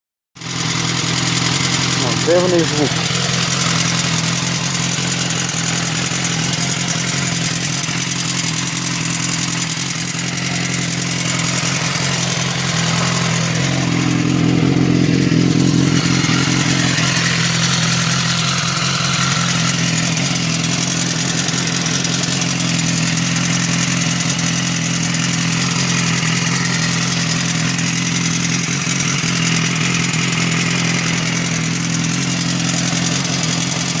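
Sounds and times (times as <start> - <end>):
motorcycle engine idling: 0.4 - 34.0
strange engine noise: 0.4 - 34.0.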